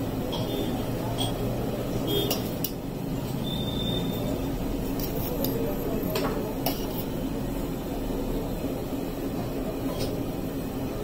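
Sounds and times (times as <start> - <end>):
busy food stall din: 0.0 - 11.0.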